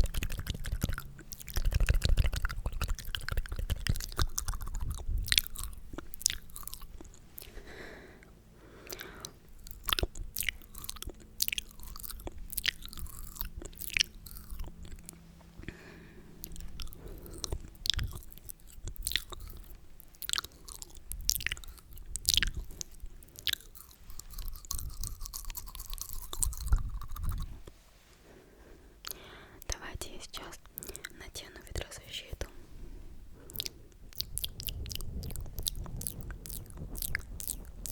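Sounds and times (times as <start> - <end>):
wet mouth clicks and pops: 0.0 - 7.6, 8.9 - 15.2, 16.4 - 27.7, 29.0 - 32.0, 33.4 - 37.9.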